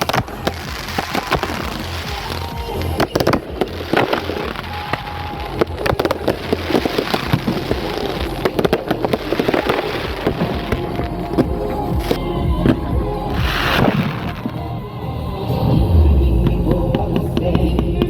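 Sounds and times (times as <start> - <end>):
sharp pops and crackles: 0.0 - 14.7
music playing: 0.0 - 18.0.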